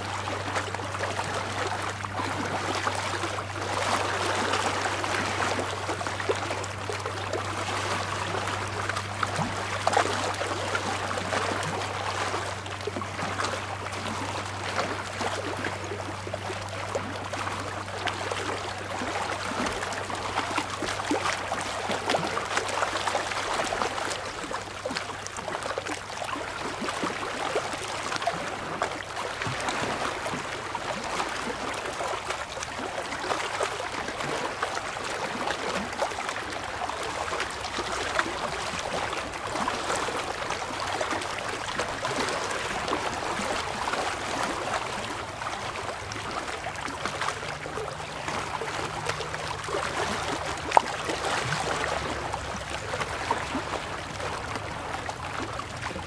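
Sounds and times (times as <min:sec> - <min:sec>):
small waves lapping on rocks: 0:00.0 - 0:56.0.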